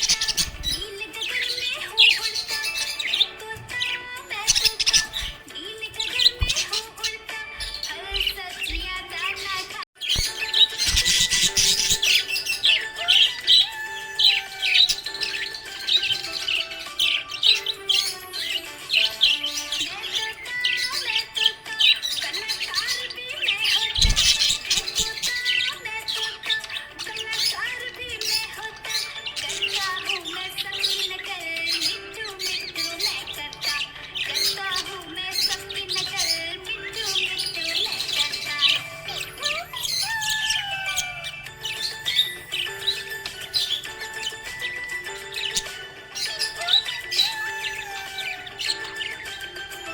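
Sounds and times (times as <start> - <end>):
background music held notes: 0.0 - 49.9
budgerigar chirping: 0.0 - 49.9.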